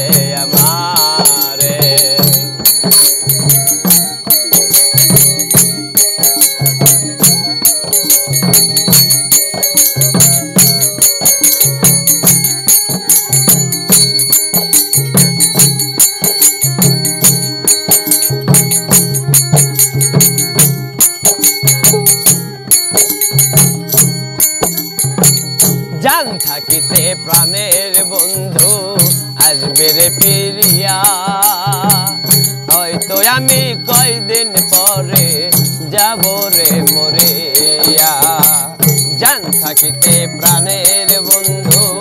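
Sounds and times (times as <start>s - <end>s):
hand drum rhythm: 0.0s - 42.0s
small hand cymbals: 0.0s - 42.0s
tambourine jingling: 0.0s - 42.0s.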